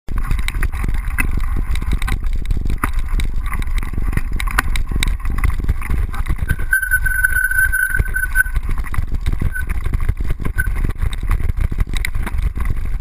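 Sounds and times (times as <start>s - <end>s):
tyre and wind rumble: 0.1s - 13.0s.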